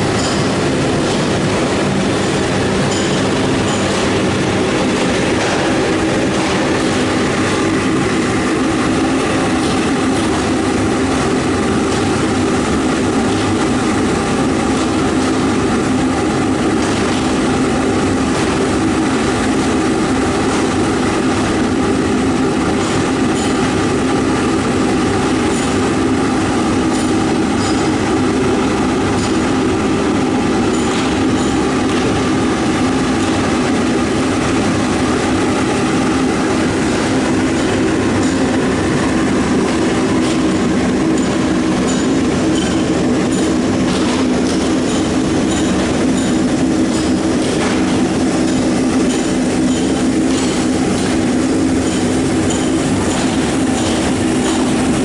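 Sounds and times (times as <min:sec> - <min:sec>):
rotary furnace droning: 0:00.0 - 0:55.0.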